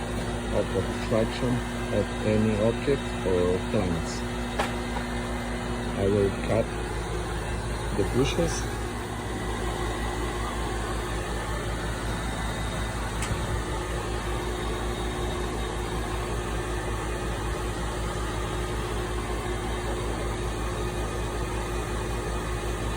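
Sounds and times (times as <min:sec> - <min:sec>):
air conditioner unit humming: 0:00.0 - 0:22.9.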